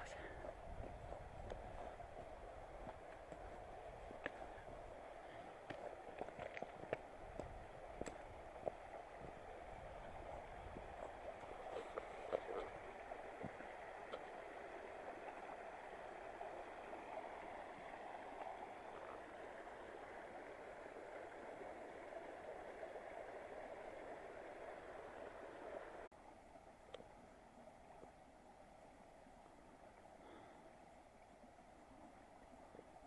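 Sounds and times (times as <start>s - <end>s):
quiet hiss: 0.0s - 33.0s
stream water running: 0.0s - 33.0s.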